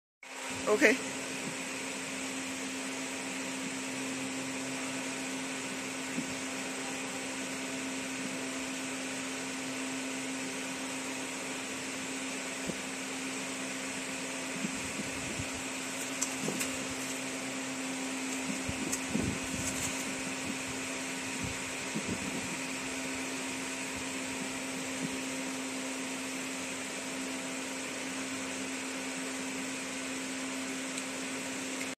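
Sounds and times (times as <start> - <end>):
laser machine fan whir: 0.3 - 31.9.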